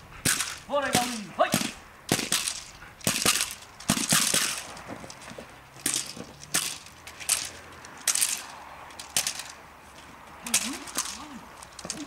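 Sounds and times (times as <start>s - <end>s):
training stick cracking: 0.3s - 12.0s.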